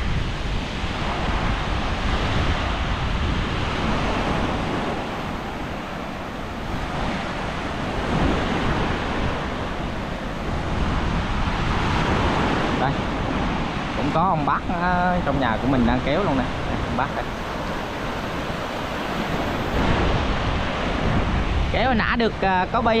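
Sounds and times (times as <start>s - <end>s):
surf washing onto beach: 0.0s - 23.0s
wind rumbling on microphone: 0.0s - 23.0s.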